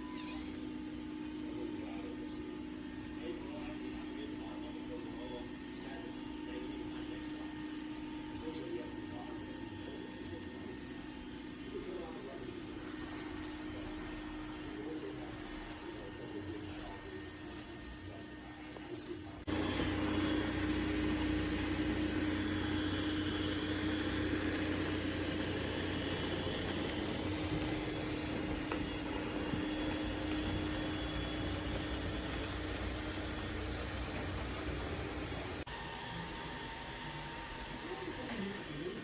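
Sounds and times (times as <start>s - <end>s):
robot vacuum motor running: 3.2s - 39.0s.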